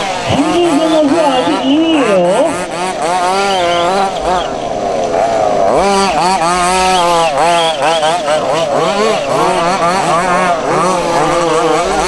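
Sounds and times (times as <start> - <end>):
small two-stroke engines revving: 0.0 - 12.0.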